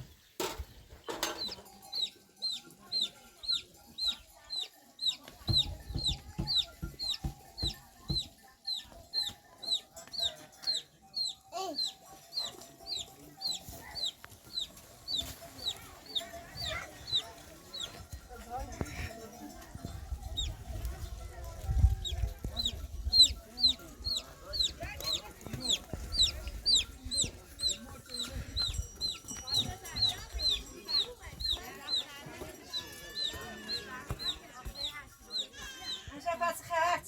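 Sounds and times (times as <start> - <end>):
chick peeping: 0.6 - 18.0, 20.4 - 20.6, 22.0 - 36.0.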